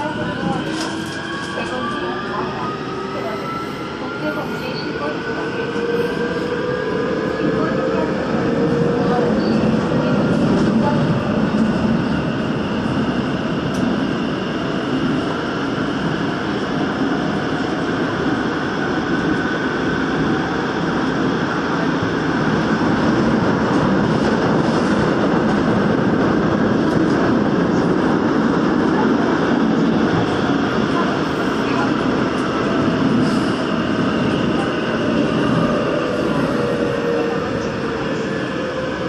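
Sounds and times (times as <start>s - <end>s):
subway train rumbling in tunnel: 0.0s - 39.0s.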